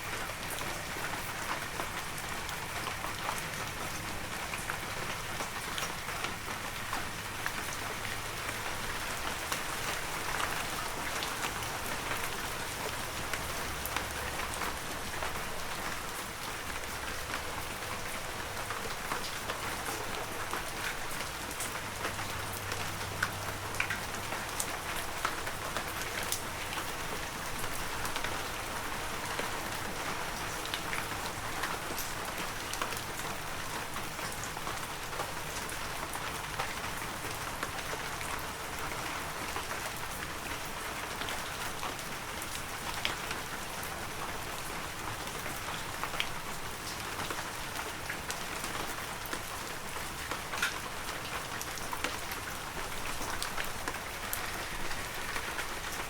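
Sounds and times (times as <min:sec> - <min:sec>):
heavy rain in a forest: 0:00.0 - 0:56.0.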